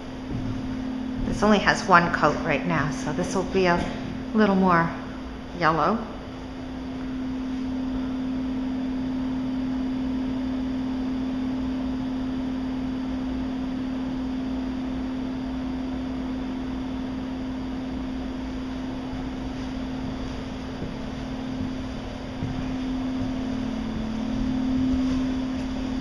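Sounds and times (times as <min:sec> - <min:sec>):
machine running steadily: 0:00.0 - 0:26.0.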